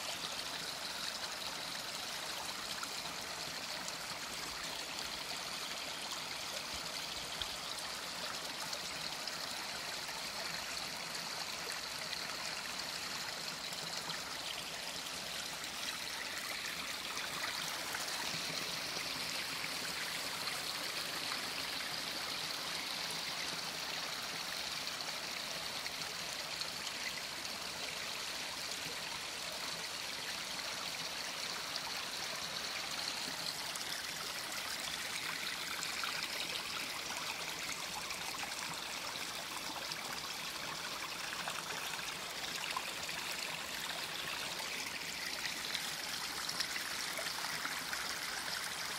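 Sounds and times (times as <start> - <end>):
stream flowing over rocks: 0.0 - 48.9.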